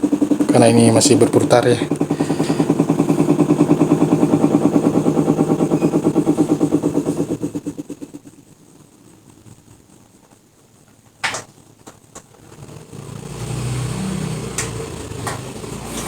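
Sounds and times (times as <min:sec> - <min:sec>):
washing machine drum spinning: 0:00.0 - 0:08.4, 0:10.9 - 0:16.0.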